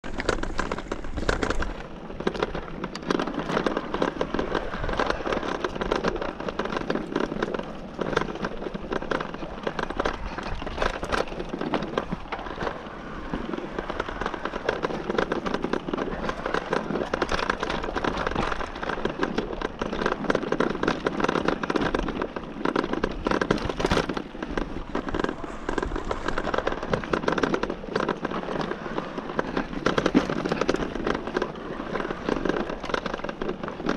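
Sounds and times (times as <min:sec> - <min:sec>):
bike tyres crackling on dirt trail: 0:00.0 - 0:33.9.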